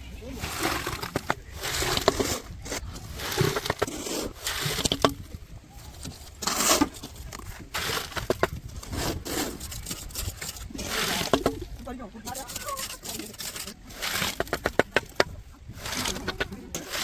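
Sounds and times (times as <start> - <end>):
wet concrete scraping and sloshing: 0.0 - 17.0.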